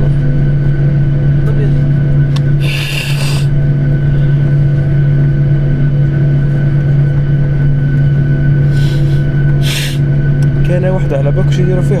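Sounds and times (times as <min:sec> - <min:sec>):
jet engines in airliner cabin: 0:00.0 - 0:12.0.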